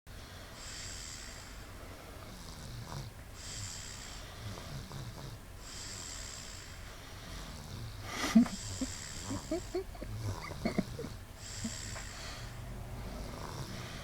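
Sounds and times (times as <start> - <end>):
breathy snoring: 0.2 - 14.0
low stuttering snores: 0.3 - 1.6, 2.2 - 14.0.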